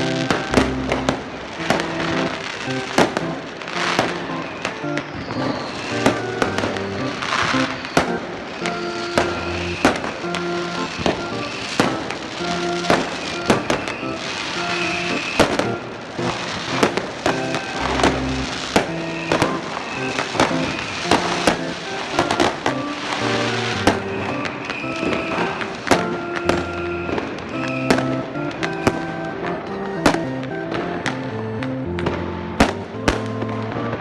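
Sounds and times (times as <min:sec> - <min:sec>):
background music of held notes: 0:00.0 - 0:34.0
fireworks bangs and crackles: 0:00.0 - 0:34.0.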